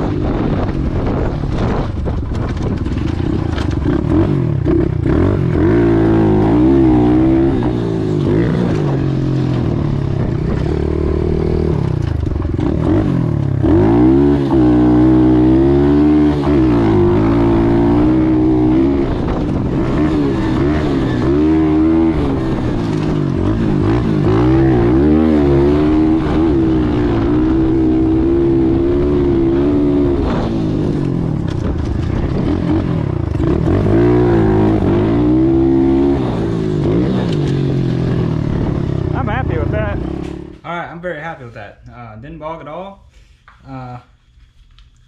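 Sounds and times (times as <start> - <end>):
motorbike engine revving: 0.0 - 40.6.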